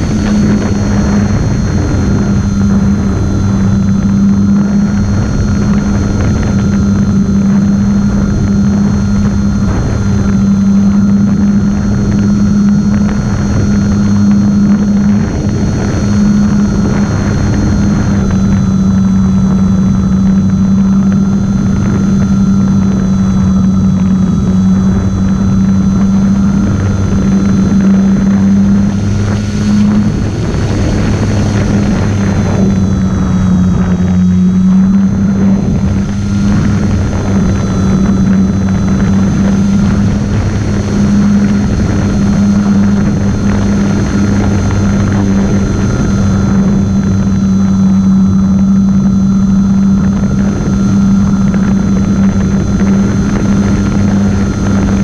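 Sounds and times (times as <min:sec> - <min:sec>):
model airplane motor whine: 0:00.0 - 0:55.0
rushing air: 0:00.0 - 0:55.0.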